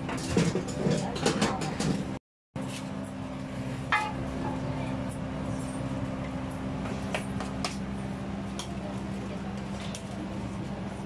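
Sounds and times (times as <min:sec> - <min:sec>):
kitchen machine hum: 0:00.0 - 0:11.0.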